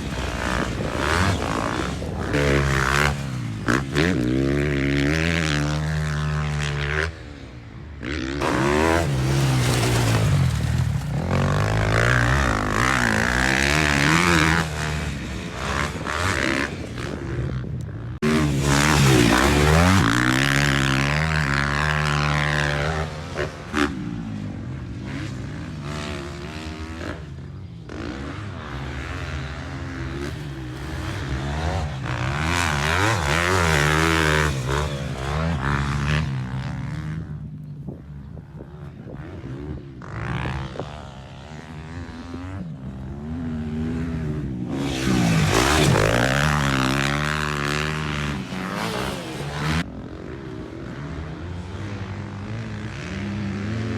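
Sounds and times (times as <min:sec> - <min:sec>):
motocross bike engines revving: 0:00.0 - 0:53.9.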